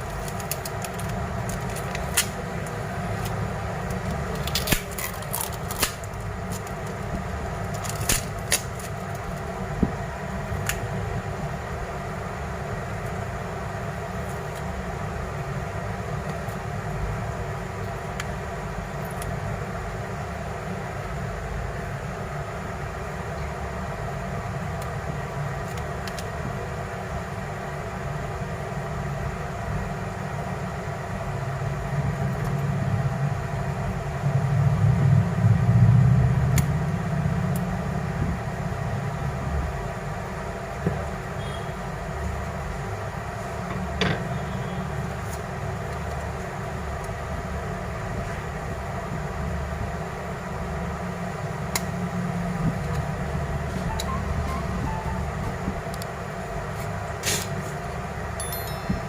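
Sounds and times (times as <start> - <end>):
machine hum with low rumble: 0.0 - 59.0.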